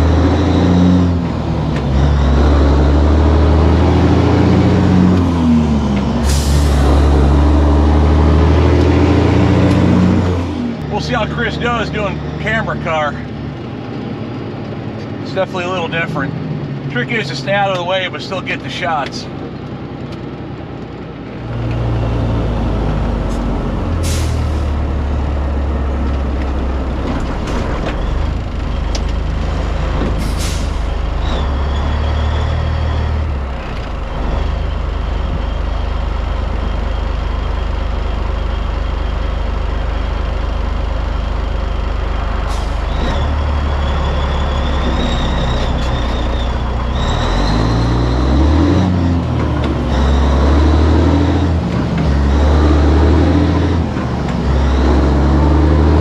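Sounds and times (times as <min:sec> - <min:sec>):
diesel truck engine: 0:00.0 - 0:56.0.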